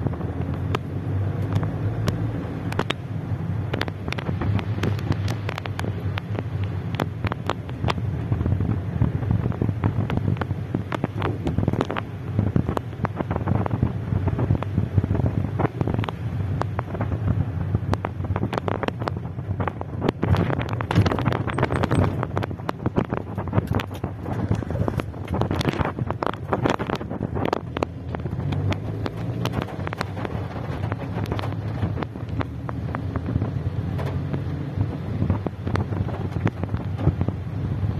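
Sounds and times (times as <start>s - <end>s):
car driving on wet road: 0.0s - 37.9s
rain pattering on car roof: 0.0s - 37.9s.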